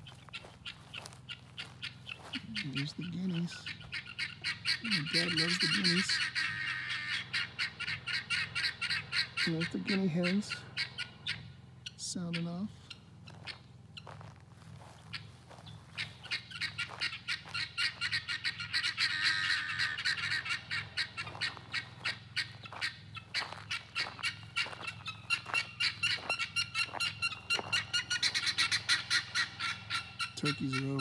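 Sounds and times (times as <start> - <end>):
guineafowl chattering calls: 0.0 - 31.0.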